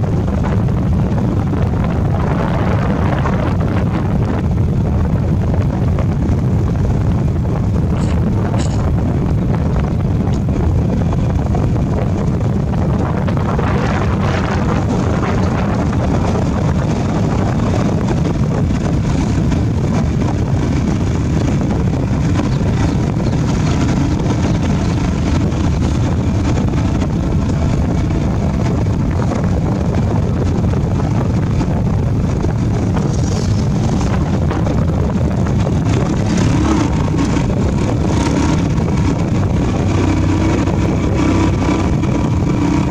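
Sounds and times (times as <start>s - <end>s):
motorbike engine cruising: 0.0s - 42.9s
wind buffeting microphone: 0.0s - 42.9s.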